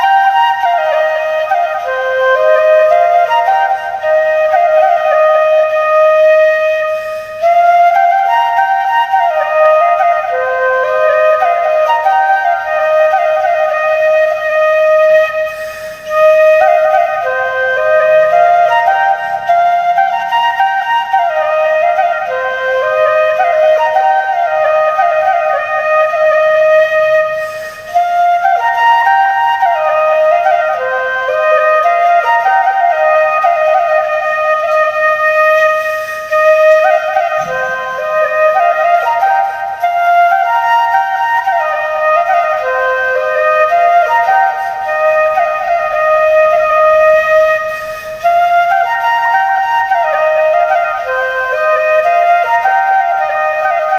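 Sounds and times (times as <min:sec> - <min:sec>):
bamboo flute melody: 0:00.0 - 0:53.9.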